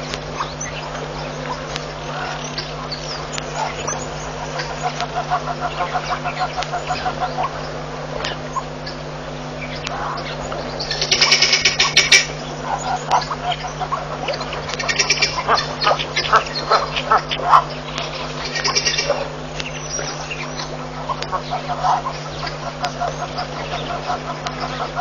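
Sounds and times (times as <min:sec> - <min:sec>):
birds harsh duck-like calls: 0:00.0 - 0:25.0
steady low hum: 0:00.0 - 0:25.0.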